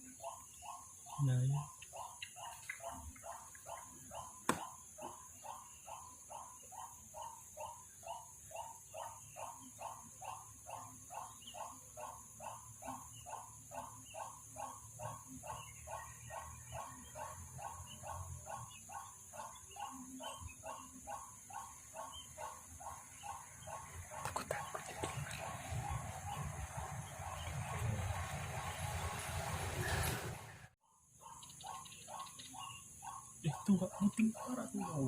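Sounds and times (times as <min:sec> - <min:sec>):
animal calling rhythmically: 0:00.0 - 0:28.8, 0:31.2 - 0:35.0.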